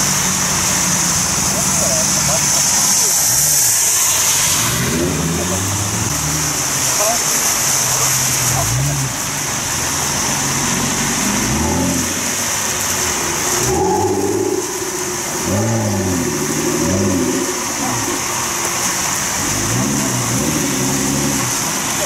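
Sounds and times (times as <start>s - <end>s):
car engine revving: 0.0s - 22.0s
heavy rain: 0.0s - 22.0s
tyres on a wet road: 0.0s - 22.0s.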